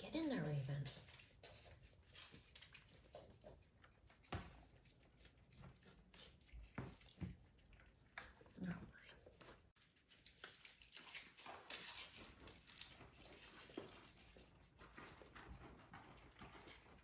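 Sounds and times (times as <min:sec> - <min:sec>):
kittens scuffling on hard floor: 0:00.3 - 0:17.0.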